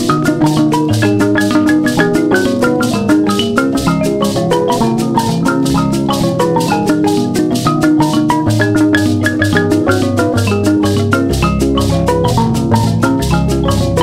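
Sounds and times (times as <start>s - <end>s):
instrumental music with fast beat: 0.0s - 14.0s.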